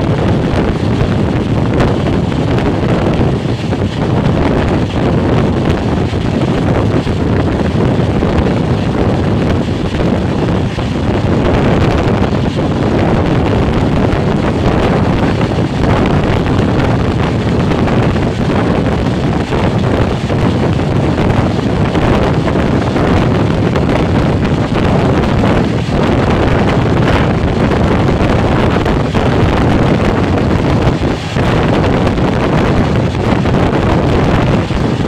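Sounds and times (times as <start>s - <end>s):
train rumbling on rails: 0.0s - 35.0s
wind buffeting microphone: 0.0s - 35.0s.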